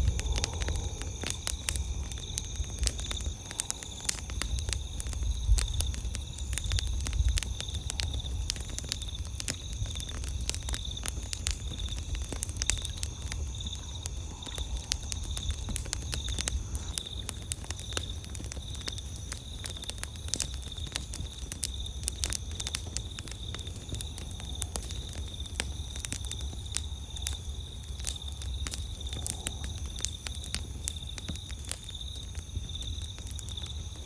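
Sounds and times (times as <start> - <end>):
campfire crackling and popping: 0.0 - 34.0
insects chirping: 0.0 - 34.0.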